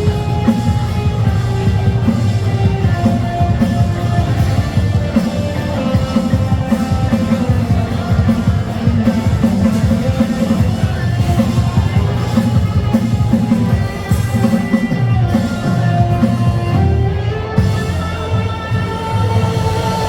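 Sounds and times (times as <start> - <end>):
instrumental pop music with beat: 0.0 - 20.0.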